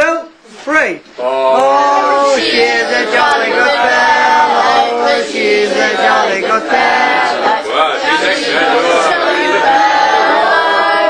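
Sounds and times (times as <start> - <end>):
group of people singing: 1.2 - 11.0.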